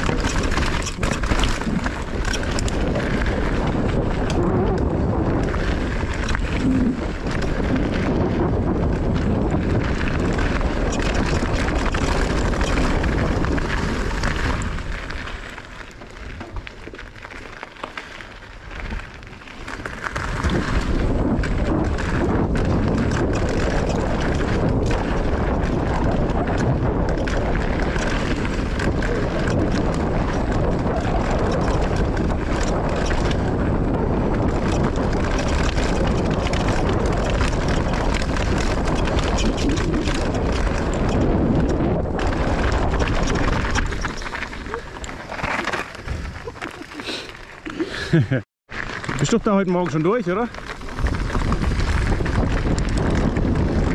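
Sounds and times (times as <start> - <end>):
wind on microphone: 0.0 - 15.4, 19.8 - 53.9
bike tyres and frame rattling: 0.0 - 53.9.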